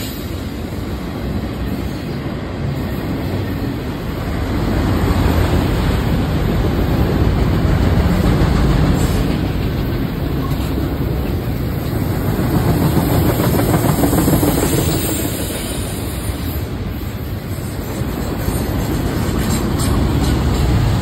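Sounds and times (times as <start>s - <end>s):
diesel locomotive rumble: 0.0s - 21.0s
train wheels rumbling on rails: 0.0s - 21.0s.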